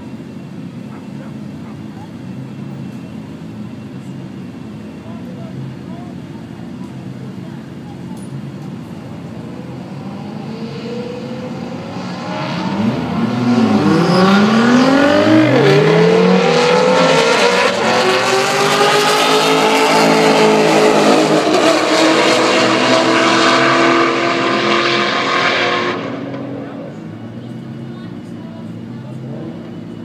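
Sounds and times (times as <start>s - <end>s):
racing car engines at full throttle: 0.0s - 30.0s.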